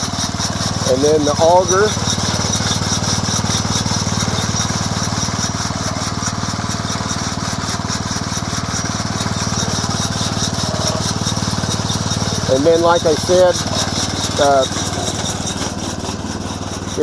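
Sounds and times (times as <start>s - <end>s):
small gas engine running: 0.0s - 17.0s.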